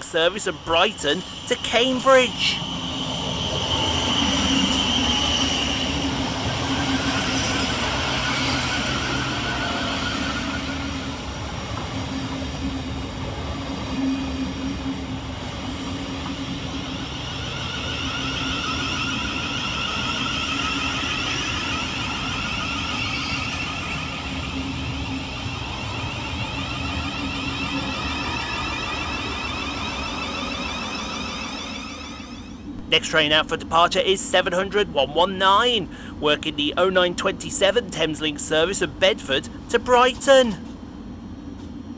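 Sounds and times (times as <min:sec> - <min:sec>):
electric traction whine: 0:00.0 - 0:41.9
train wheels rumbling on rails: 0:00.0 - 0:41.9.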